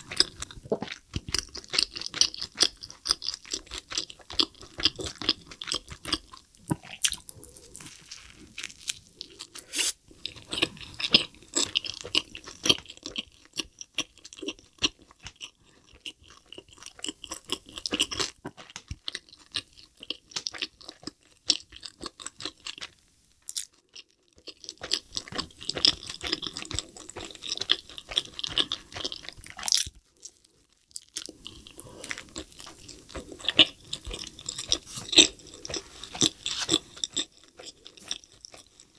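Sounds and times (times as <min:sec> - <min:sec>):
chewing with mouth clicks: 0:00.0 - 0:38.9.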